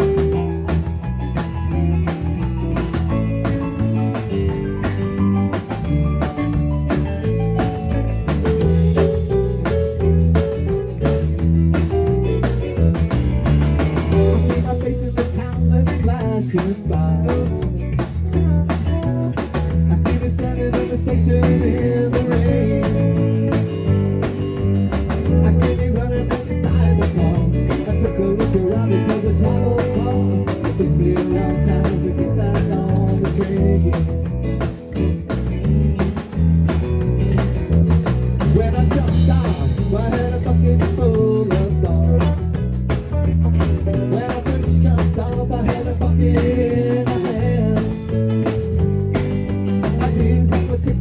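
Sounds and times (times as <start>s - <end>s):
band playing instrumental: 0.0s - 51.0s
bass: 0.0s - 51.0s
guitar: 0.0s - 51.0s
steady drum beat: 0.0s - 51.0s.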